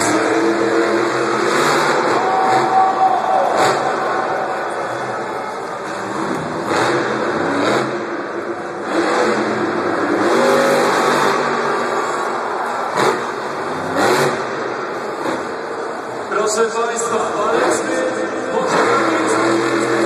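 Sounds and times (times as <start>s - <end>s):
truck engine revving: 0.0s - 16.3s, 17.4s - 20.0s.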